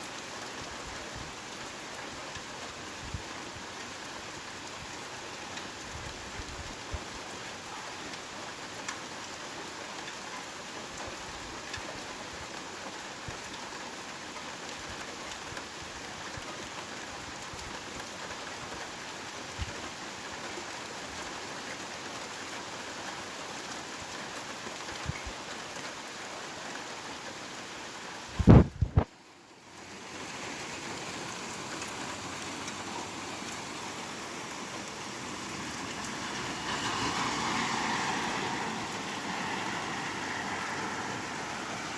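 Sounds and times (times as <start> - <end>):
heavy rain falling: 0.0 - 41.9
raindrops tapping close by: 0.0 - 41.9.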